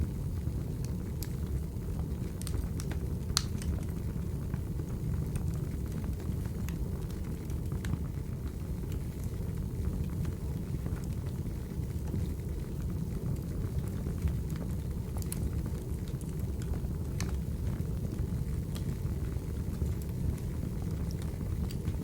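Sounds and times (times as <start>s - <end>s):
fire rumbling: 0.0s - 22.0s
wood crackling and popping: 0.7s - 22.0s.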